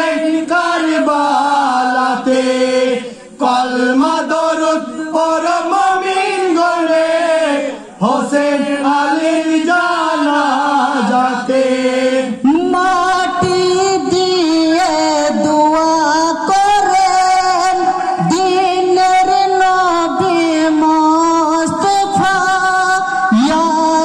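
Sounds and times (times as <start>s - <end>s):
men chanting a mourning elegy: 0.0s - 24.0s.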